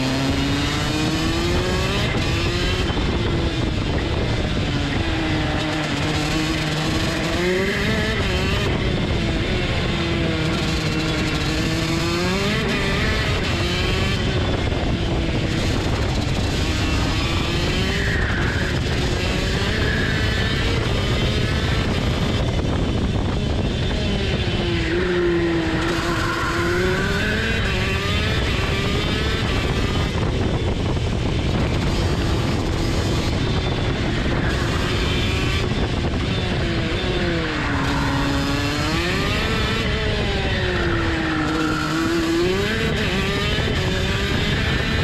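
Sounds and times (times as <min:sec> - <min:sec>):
kart engine at racing speed: 0:00.0 - 0:45.0.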